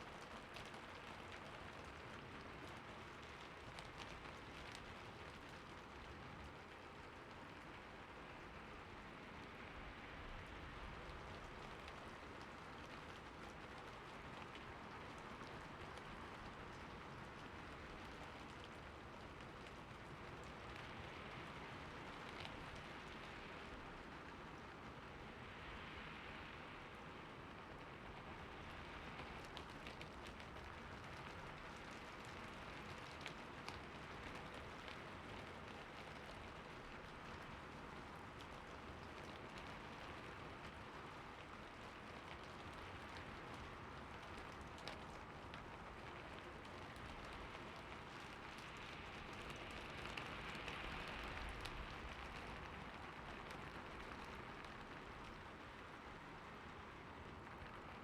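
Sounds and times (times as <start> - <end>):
rain pattering: 0.0 - 58.0
raindrop ticks: 0.1 - 7.9, 10.7 - 58.0.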